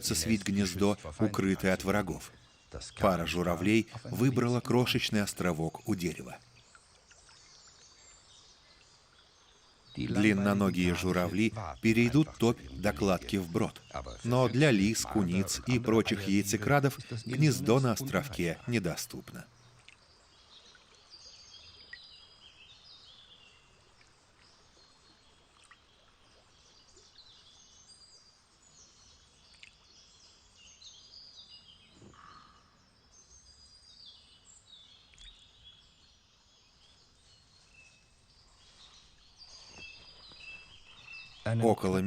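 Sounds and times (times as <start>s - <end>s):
songbirds chirping: 0.0s - 42.0s.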